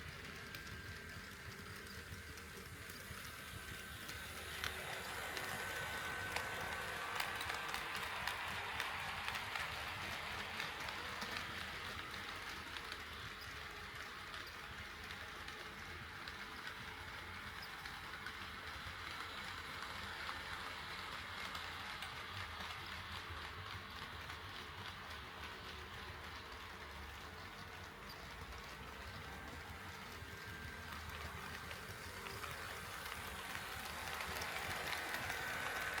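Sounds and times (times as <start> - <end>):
model train wheels and motor whirring: 0.0 - 36.0.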